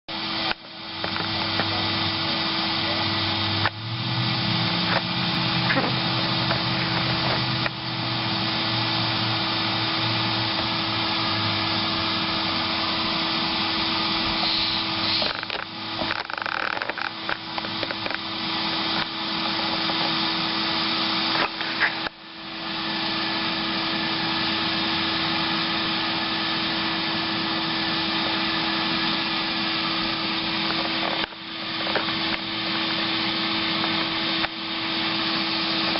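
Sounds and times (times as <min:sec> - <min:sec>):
vacuum humming: 0:00.1 - 0:35.9.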